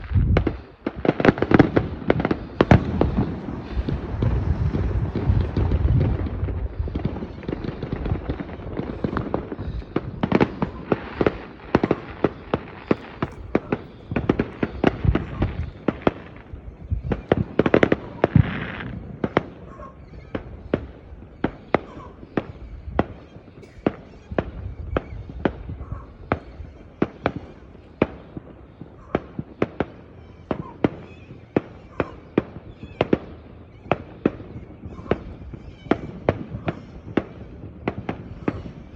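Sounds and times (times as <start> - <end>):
fireworks bangs and booms: 0.0 - 38.9
fireworks cracks and pops: 0.0 - 38.9.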